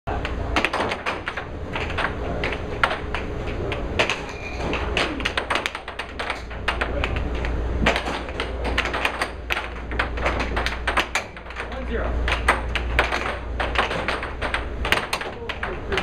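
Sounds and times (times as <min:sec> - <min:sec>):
air hockey puck clacking: 0:00.1 - 0:16.0
deep steady hum: 0:00.1 - 0:16.0.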